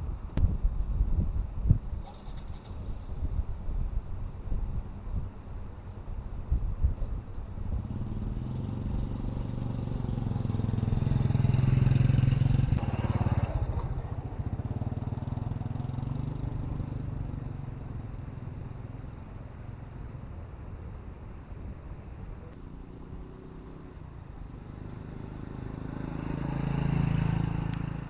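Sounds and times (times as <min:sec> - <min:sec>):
vehicle engine rumbling: 0:02.0 - 0:28.0.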